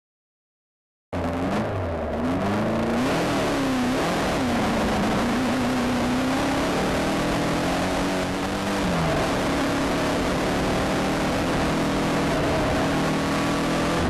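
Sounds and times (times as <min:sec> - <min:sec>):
race car engine accelerating: 0:01.2 - 0:14.0
road and wind noise: 0:01.2 - 0:14.0.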